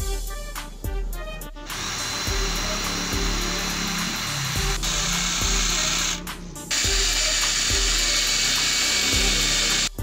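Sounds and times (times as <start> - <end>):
electric drill boring into steel: 1.7 - 10.0.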